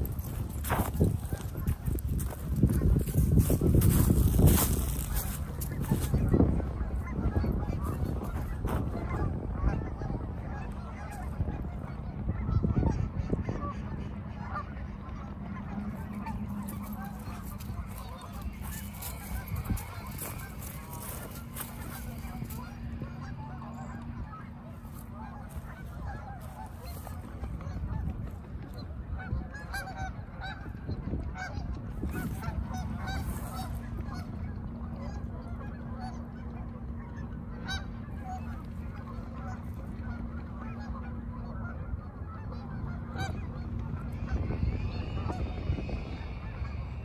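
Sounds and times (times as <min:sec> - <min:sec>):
geese honking: 0:00.0 - 0:47.0
low rumble: 0:00.0 - 0:47.0.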